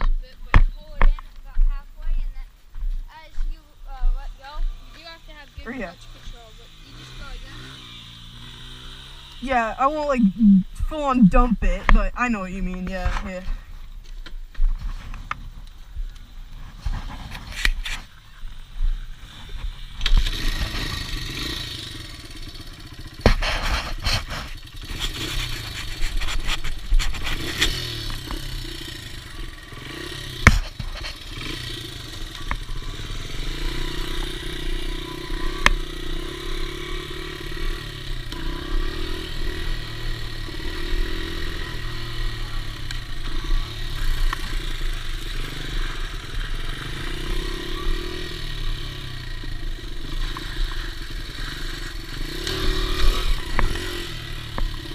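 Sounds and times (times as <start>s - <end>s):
dirt bike engine revving: 3.9s - 13.7s, 16.8s - 54.9s.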